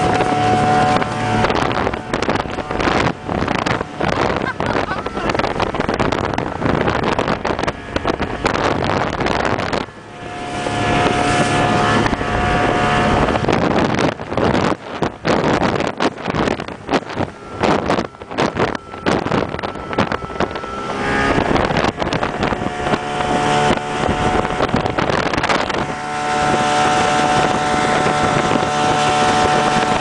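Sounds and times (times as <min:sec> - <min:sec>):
hull slapping waves: 0:00.0 - 0:30.0
motorboat engine drone: 0:00.0 - 0:30.0
wind buffeting microphone: 0:00.0 - 0:30.0.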